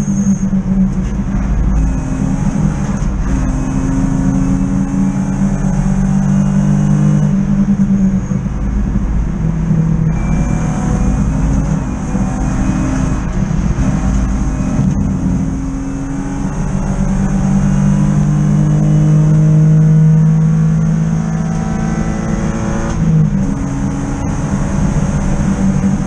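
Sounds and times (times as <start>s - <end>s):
race car engine at high revs: 0.0s - 26.0s.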